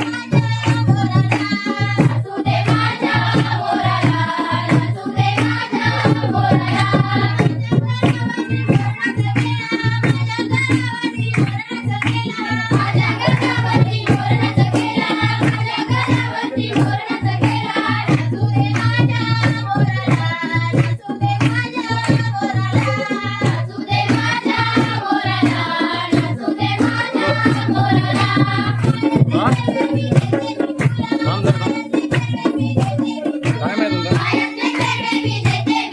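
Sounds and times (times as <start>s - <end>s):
drum fast steady beat: 0.0s - 35.9s
folk song sung by voices: 0.0s - 35.9s.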